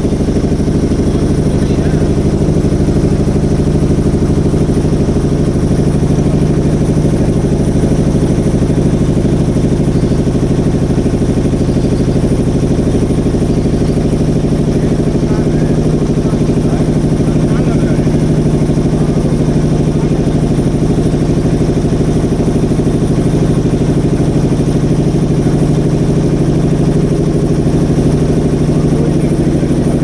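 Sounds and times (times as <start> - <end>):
motorboat engine chugging: 0.0 - 30.0.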